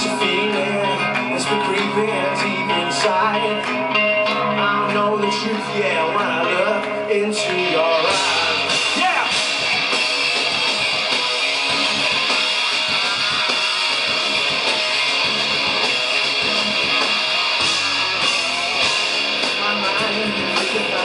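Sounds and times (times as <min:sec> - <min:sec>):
rock band playing live: 0:00.0 - 0:21.0
strummed electric guitar: 0:00.0 - 0:21.0.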